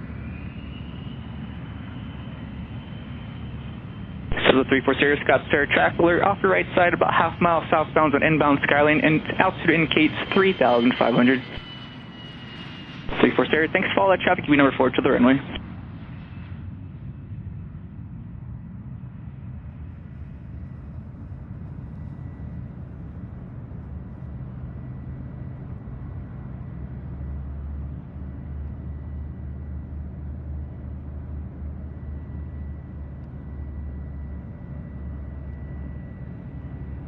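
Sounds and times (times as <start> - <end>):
jet engine rumble and whine: 0.0 - 37.0.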